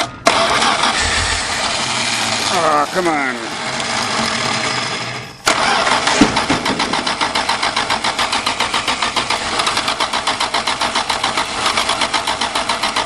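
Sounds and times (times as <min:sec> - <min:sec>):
starter motor cranking engine: 0:00.0 - 0:13.0.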